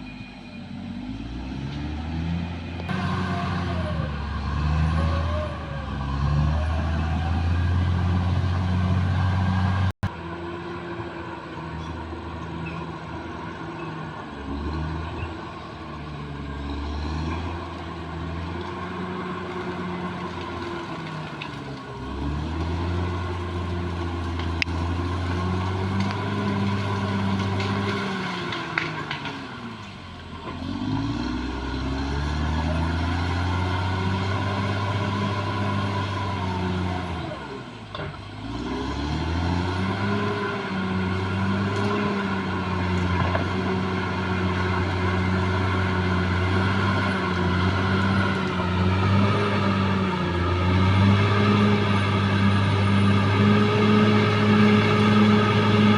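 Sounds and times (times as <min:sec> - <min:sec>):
bulldozer diesel engine working: 0:00.0 - 0:55.9.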